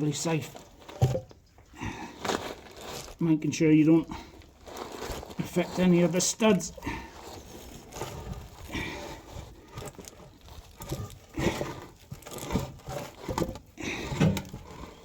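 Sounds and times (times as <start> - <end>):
metal tank scraping: 0.0 - 15.0
rustling: 0.0 - 15.0.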